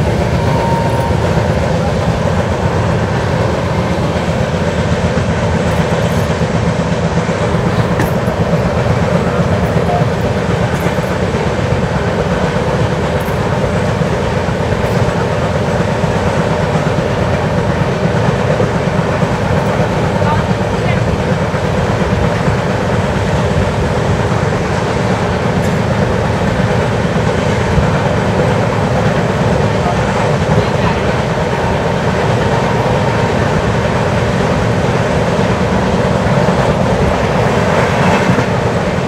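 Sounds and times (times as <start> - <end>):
train coach rumbling on rails: 0.0 - 39.0
wheel clatter over rails: 0.0 - 39.0.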